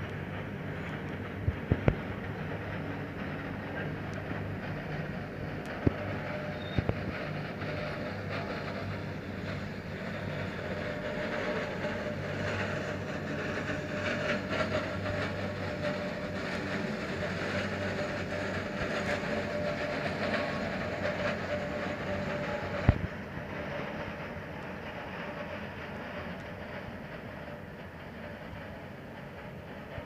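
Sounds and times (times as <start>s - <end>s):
train wheels clattering on rail: 0.0s - 30.0s.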